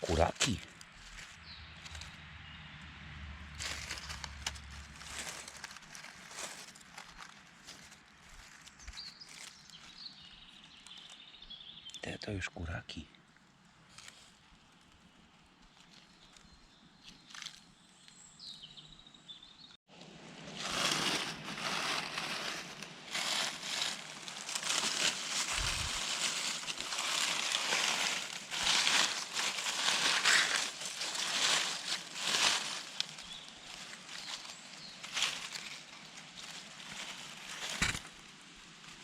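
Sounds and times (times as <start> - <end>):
rustling and crunching of leaf litter: 0.0 - 11.8, 13.7 - 18.6, 19.9 - 39.0.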